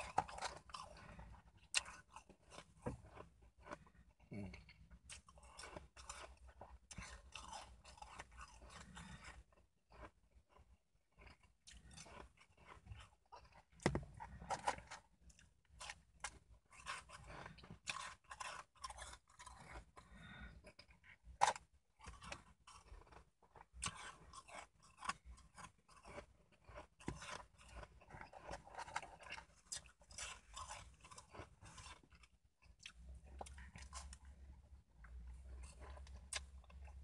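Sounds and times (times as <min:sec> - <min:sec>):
person chewing shaved ice: 0:00.0 - 0:37.0.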